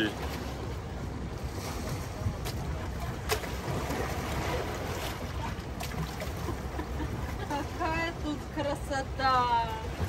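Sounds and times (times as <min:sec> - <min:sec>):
sea waves and water sloshing: 0:00.0 - 0:10.0
wind buffeting the microphone: 0:00.5 - 0:08.6.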